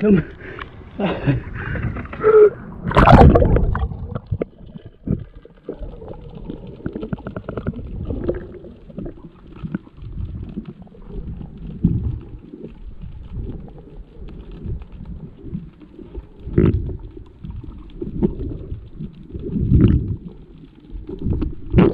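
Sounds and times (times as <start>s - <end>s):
muffled underwater gurgling: 0.0s - 21.9s.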